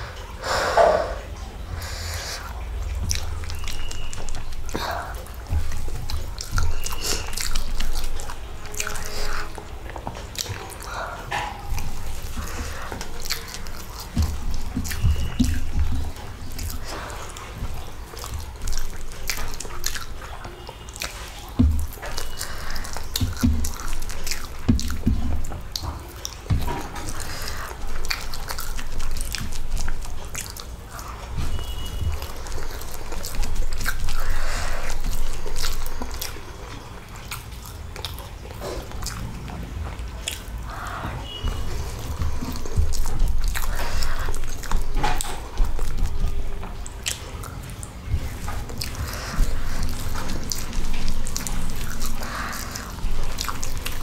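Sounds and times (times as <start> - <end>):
chewing and mouth smacks: 1.0 - 54.0.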